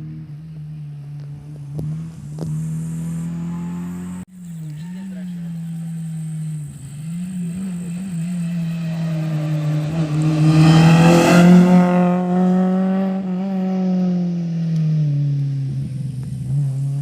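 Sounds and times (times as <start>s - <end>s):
rally car engine passing at speed: 0.0s - 17.0s.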